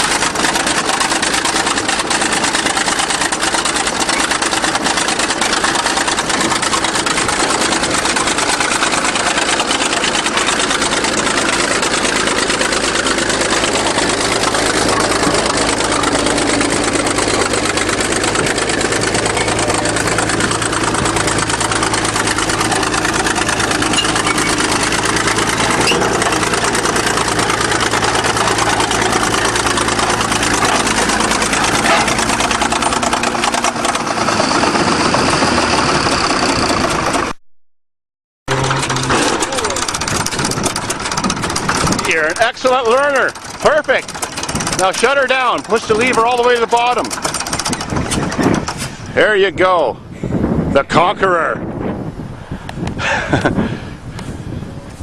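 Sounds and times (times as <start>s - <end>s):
bulldozer diesel engine running: 0.0s - 37.4s, 38.5s - 50.8s, 51.6s - 55.0s.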